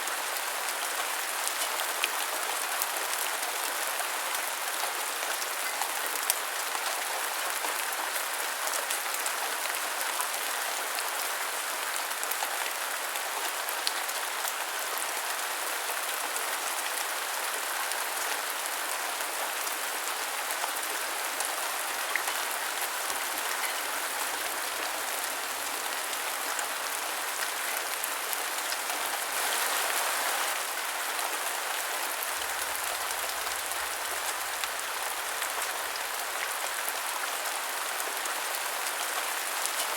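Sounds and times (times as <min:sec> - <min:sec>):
rain on hard surface: 0:00.0 - 0:39.9.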